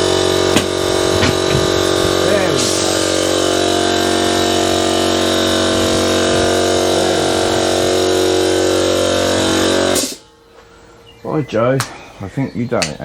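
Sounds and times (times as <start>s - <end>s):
tyre changing machine motor whine: 0.0s - 11.7s.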